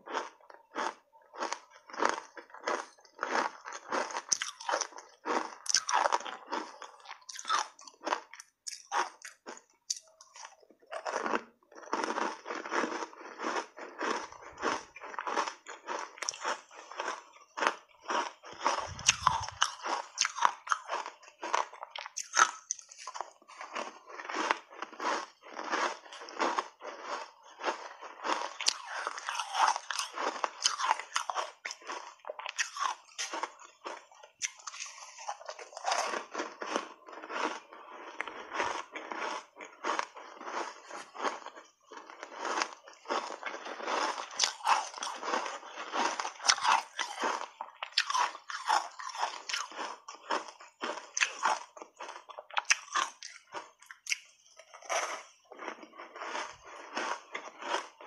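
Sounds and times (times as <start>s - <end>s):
crunching ice: 0.0s - 58.0s.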